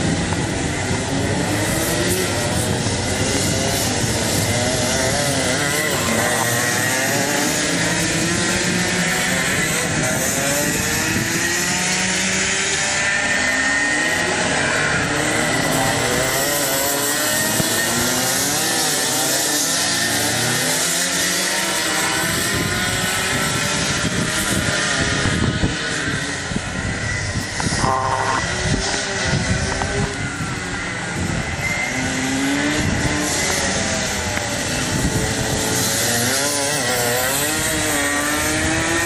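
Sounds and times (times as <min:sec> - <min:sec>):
go-kart engines racing past: 0:00.0 - 0:39.0.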